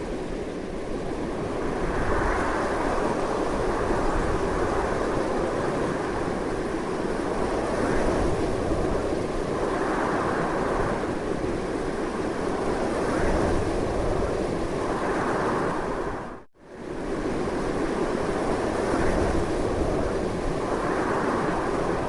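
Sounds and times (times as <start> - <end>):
strong wind rushing: 0.0 - 22.0.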